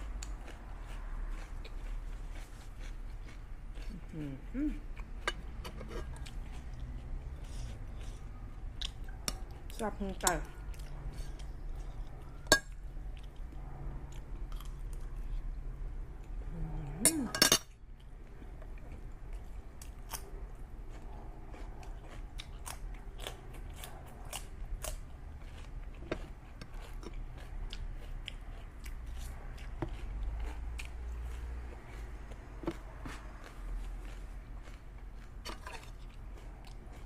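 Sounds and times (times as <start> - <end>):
person chewing food: 0.0 - 17.0, 17.7 - 37.0.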